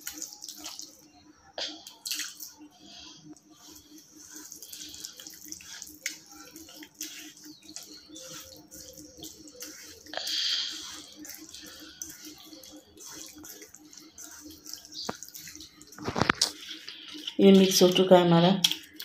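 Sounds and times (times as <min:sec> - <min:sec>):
hand squelching wet dough: 0:00.0 - 0:01.1, 0:01.7 - 0:19.0.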